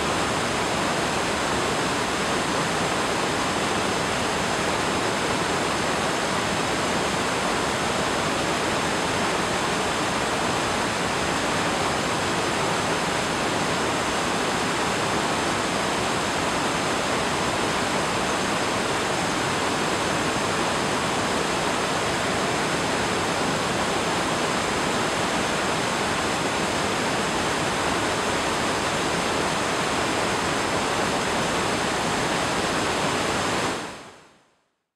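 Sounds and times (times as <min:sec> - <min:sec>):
river water rushing: 0:00.0 - 0:34.3.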